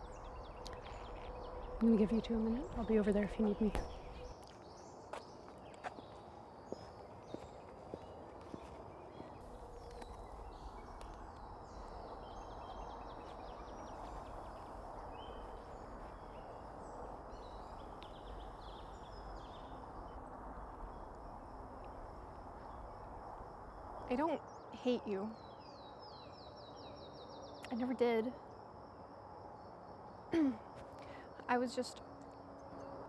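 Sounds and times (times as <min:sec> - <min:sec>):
small birds chirping: 0:00.0 - 0:28.3.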